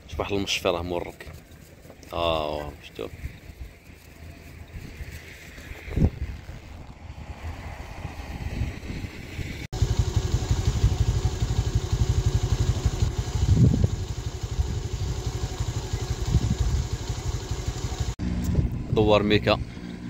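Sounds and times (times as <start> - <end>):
wind buffeting microphone: 3.1 - 19.6.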